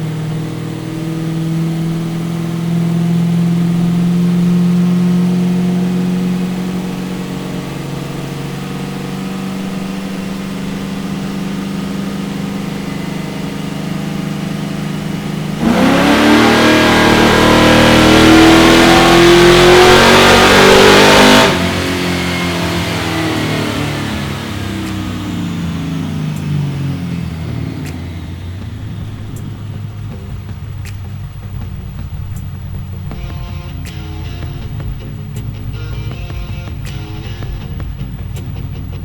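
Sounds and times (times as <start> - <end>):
engine revving on a dyno: 0.0 - 34.5.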